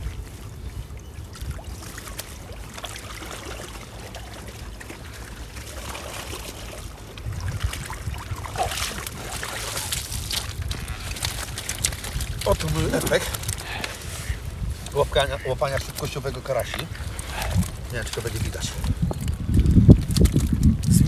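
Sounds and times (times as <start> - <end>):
wind rumble on microphone: 0.0 - 2.7, 4.3 - 21.0
water splashing and trickling: 0.0 - 21.0.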